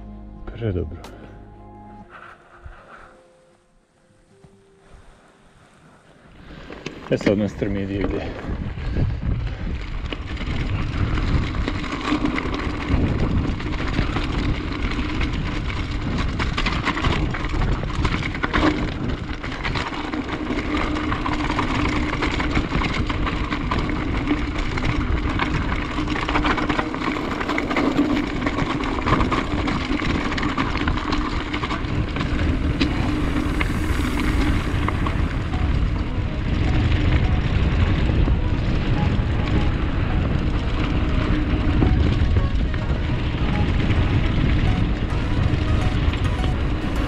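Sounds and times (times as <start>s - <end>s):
bike rattling: 5.7s - 47.0s
bike tyres rumbling on gravel: 5.9s - 47.0s
wind buffeting microphone: 6.3s - 47.0s.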